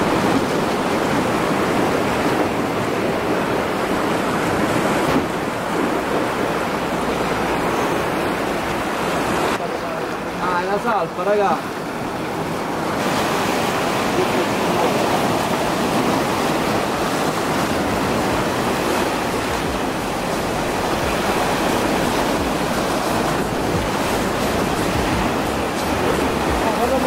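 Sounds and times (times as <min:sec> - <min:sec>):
sea surf breaking over rocks: 0:00.0 - 0:27.0.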